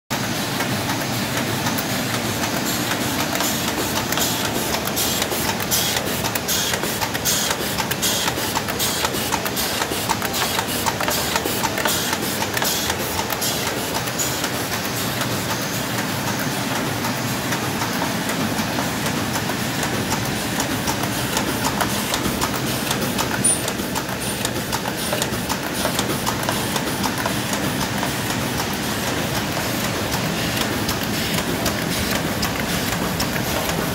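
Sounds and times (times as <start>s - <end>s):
laminator machine running: 0.1s - 33.9s
rapid mechanical clicking: 0.2s - 33.9s.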